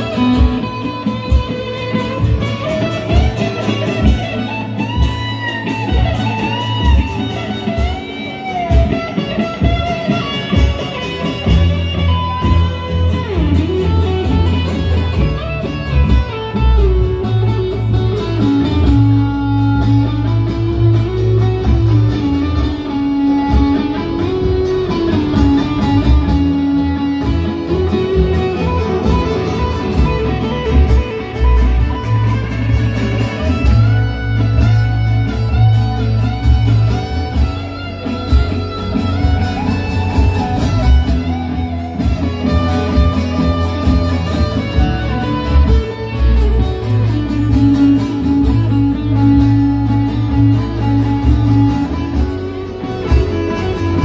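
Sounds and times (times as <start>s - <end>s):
electric guitar lead melody: 0.0s - 54.0s
low bass accompaniment: 0.0s - 54.0s.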